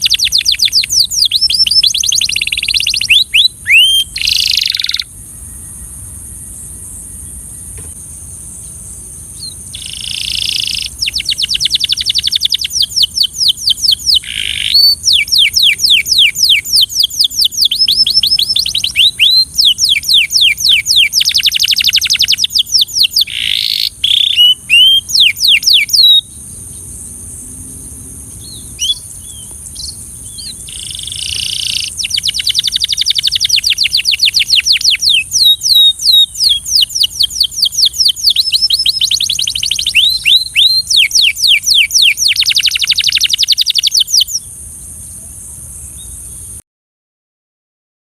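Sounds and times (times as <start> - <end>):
canary singing trills: 0.0 - 27.1, 28.0 - 46.6.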